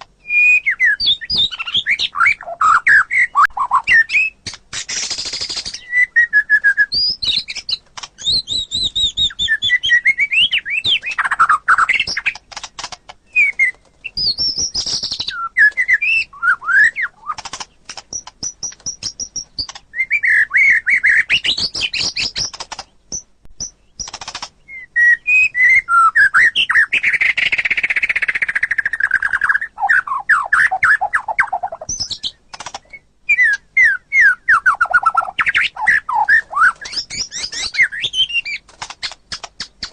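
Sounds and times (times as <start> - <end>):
bird singing whistles and trills: 0.2 - 12.4, 13.2 - 39.9.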